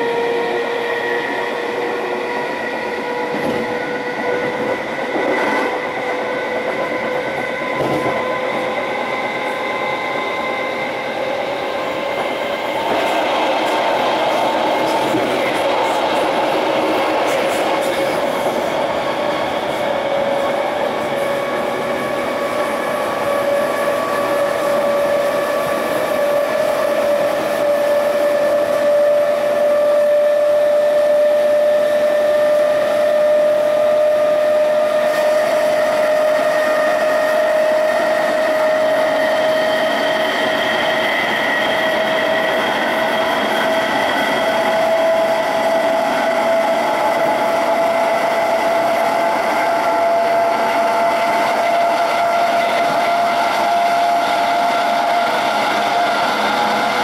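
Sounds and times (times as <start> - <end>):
electric train motor whining: 0.0 - 57.0.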